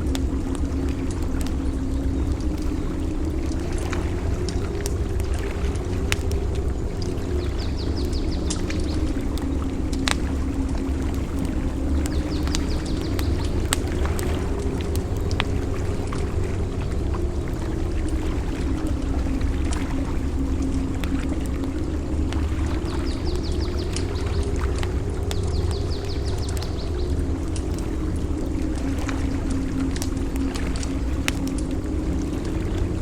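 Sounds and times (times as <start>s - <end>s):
campfire crackling and popping: 0.0s - 33.0s
water rushing: 0.0s - 33.0s.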